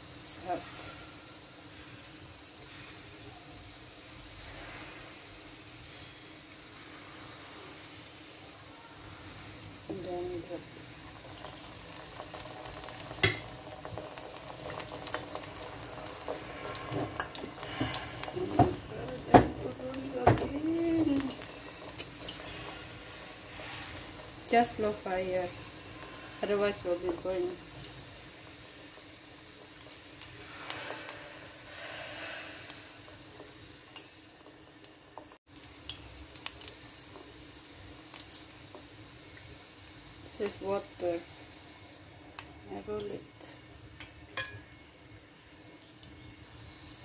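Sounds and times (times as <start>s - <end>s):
dough frying in hot oil: 0.0s - 47.0s.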